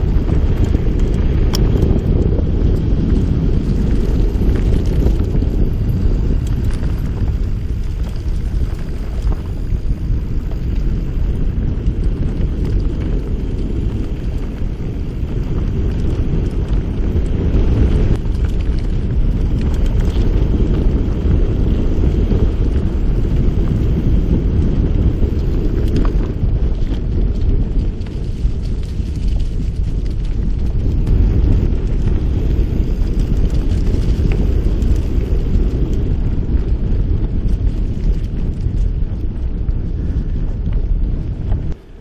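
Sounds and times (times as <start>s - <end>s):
bike rumbling over dirt: 0.0s - 42.0s
wind buffeting microphone: 0.0s - 42.0s.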